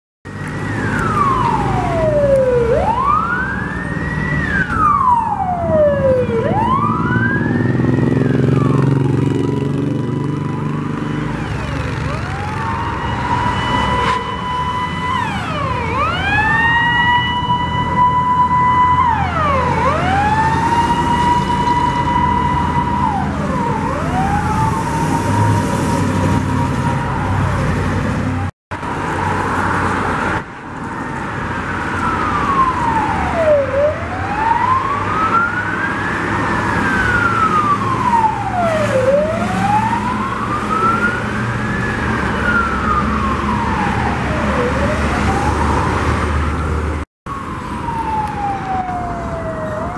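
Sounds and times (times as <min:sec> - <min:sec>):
road traffic: 0:00.2 - 0:49.9
fire truck siren: 0:00.3 - 0:49.9
truck engines: 0:00.3 - 0:49.9.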